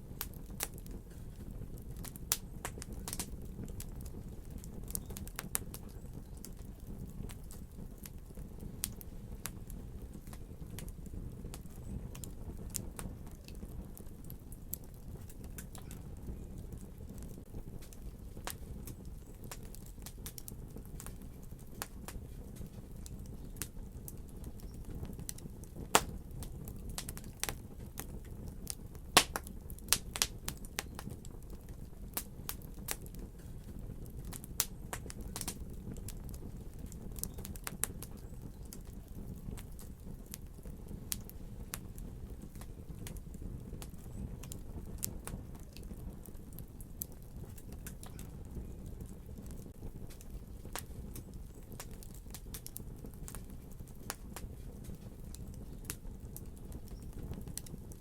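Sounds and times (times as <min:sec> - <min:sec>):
low rumble of flames: 0:00.0 - 0:58.0
wood fire popping and snapping: 0:00.0 - 0:58.0.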